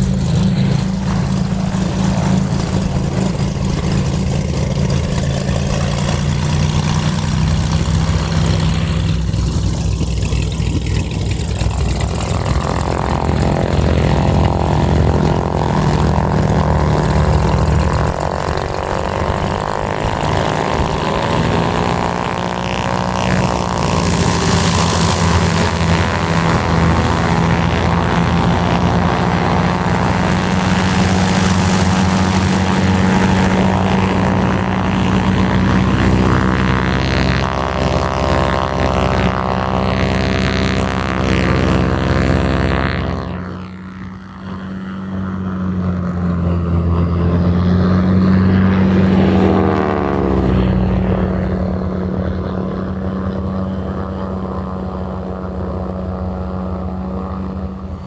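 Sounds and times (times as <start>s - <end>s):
higher-pitched engine tone: 0.0s - 58.0s
propeller aircraft engine: 0.0s - 58.0s.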